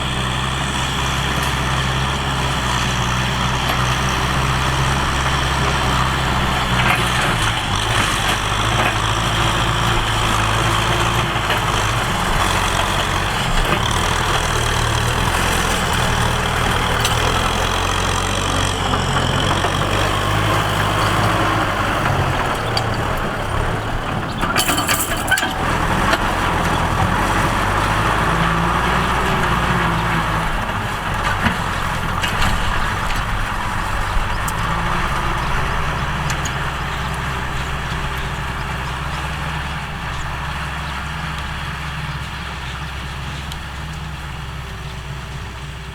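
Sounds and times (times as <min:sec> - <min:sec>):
tractor engine under load: 0:00.0 - 0:45.9.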